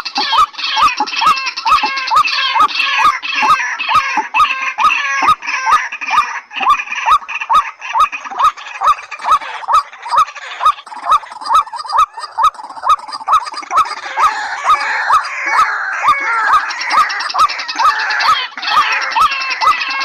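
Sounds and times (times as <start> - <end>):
waterhen calling: 0.0 - 20.0.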